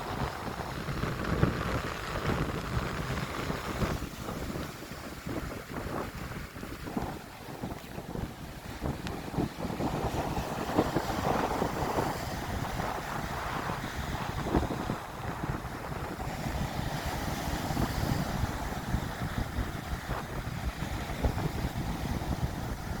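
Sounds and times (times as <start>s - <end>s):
waves breaking: 0.0s - 23.0s
wind buffeting microphone: 0.0s - 23.0s.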